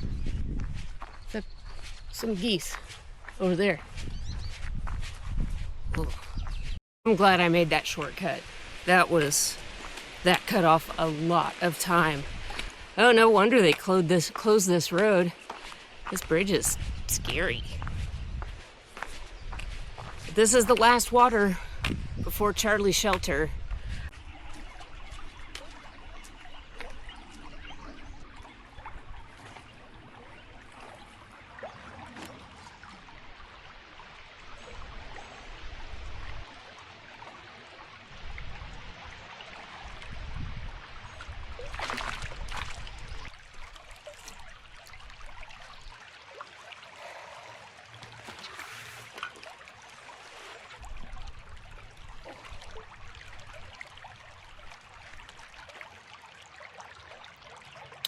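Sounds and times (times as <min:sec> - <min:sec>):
creek water trickling: 0:00.0 - 0:58.0.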